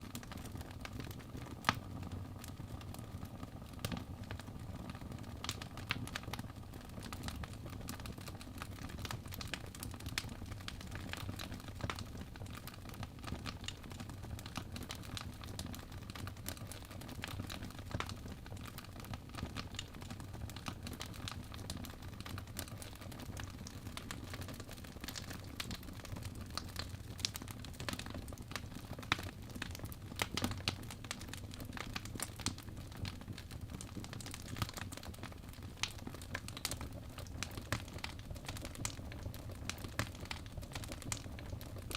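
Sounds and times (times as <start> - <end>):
fire crackling and popping: 0.0 - 41.9
low rumble of flames: 0.1 - 41.9.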